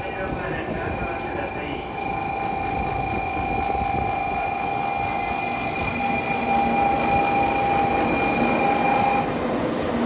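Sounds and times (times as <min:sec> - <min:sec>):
steady high whine: 0:00.0 - 0:10.0
train rolling noise: 0:00.0 - 0:10.0.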